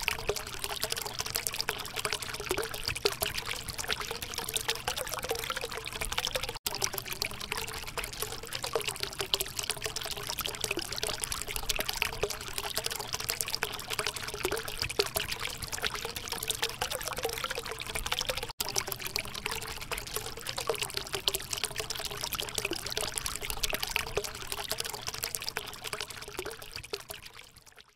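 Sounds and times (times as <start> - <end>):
fountain water trickling: 0.0 - 27.9.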